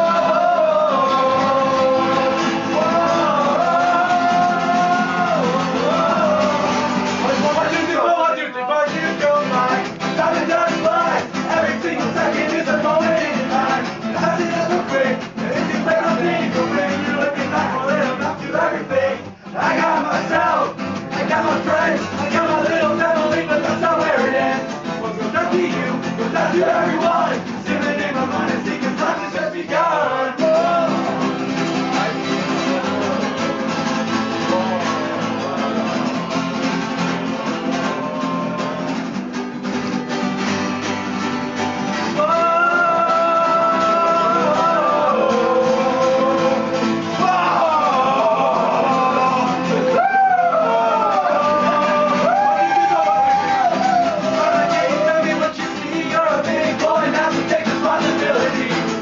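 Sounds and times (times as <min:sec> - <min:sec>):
man singing: 0:00.0 - 0:39.2, 0:41.8 - 0:59.0
acoustic guitars playing: 0:00.0 - 0:59.0.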